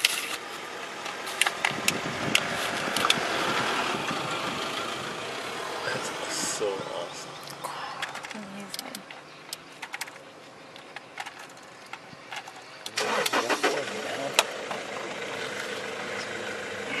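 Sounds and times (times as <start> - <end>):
vehicle engine starting and running: 0.0 - 17.0.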